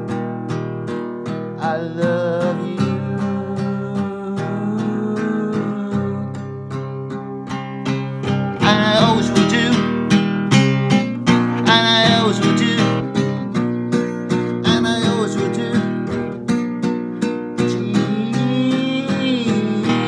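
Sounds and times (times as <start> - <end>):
strummed acoustic guitar: 0.0 - 20.0
man singing: 1.6 - 7.3, 8.2 - 10.3, 10.9 - 16.6, 17.2 - 20.0.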